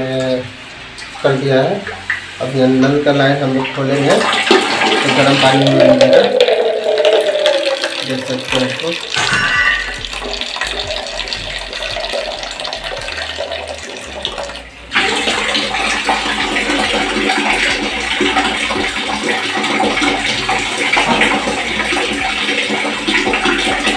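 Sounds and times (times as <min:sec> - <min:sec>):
tap water running into jug: 0:01.0 - 0:23.9.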